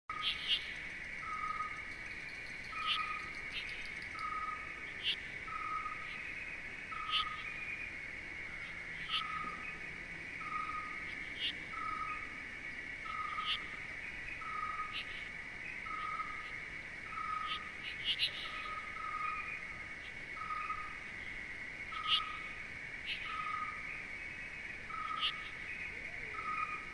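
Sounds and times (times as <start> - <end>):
high insect drone: 0.1 - 26.9.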